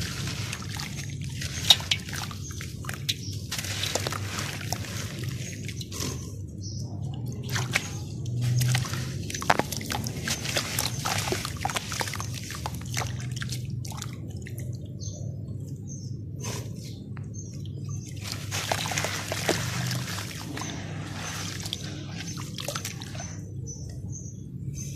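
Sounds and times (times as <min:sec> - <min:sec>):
muddy water splashing and sloshing: 0:00.0 - 0:24.9.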